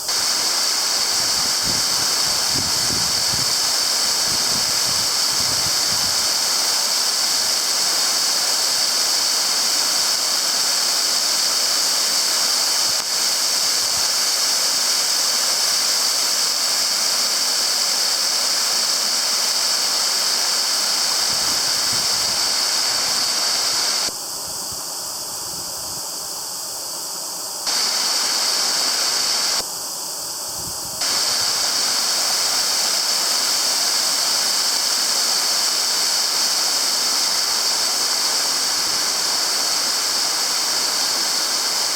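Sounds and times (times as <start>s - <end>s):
waterfall rushing: 0.0s - 24.1s, 27.7s - 29.6s, 31.0s - 41.9s.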